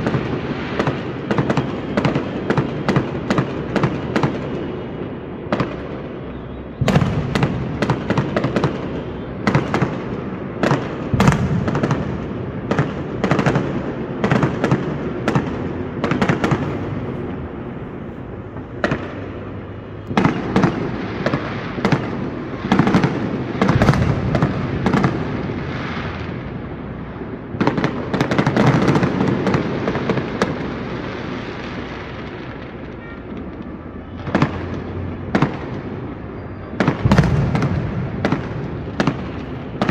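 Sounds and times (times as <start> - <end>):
fireworks bangs and crackles: 0.0 - 39.9
fireworks rumble: 0.0 - 39.9.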